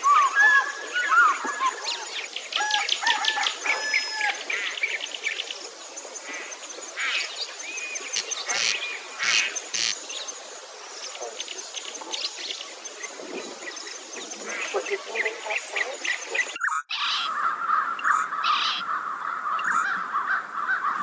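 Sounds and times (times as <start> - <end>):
wetland birds calling: 0.0 - 10.4, 11.0 - 21.0.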